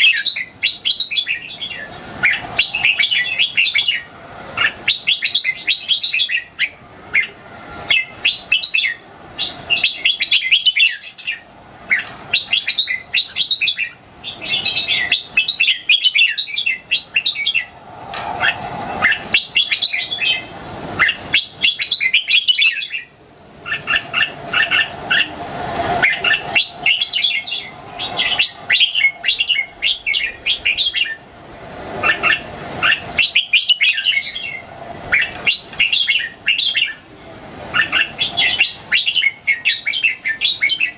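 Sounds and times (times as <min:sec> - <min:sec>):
bird singing chattering phrases: 0:00.0 - 0:17.8, 0:18.4 - 0:25.4, 0:26.0 - 0:31.2, 0:32.0 - 0:40.9.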